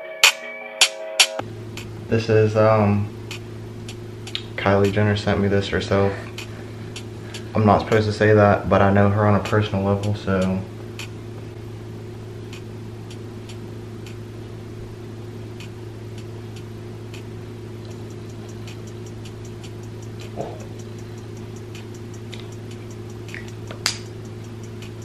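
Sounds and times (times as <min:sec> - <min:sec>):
regular ticking: 0:01.4 - 0:08.3, 0:09.4 - 0:25.0
steady low hum: 0:01.4 - 0:25.0.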